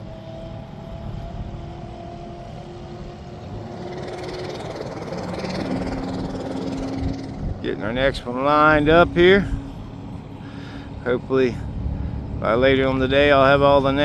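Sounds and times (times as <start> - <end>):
low engine hum: 0.0 - 14.0
race car engine accelerating: 0.0 - 14.0.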